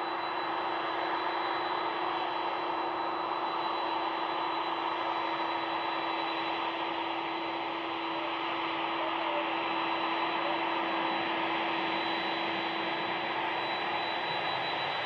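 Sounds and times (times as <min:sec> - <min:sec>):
jet engines at taxi power: 0:00.0 - 0:15.0.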